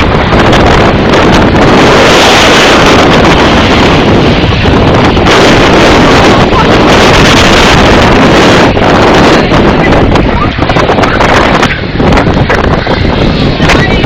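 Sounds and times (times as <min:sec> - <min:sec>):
jet engines roaring: 0:00.0 - 0:14.0
wind buffeting microphone: 0:00.0 - 0:14.0.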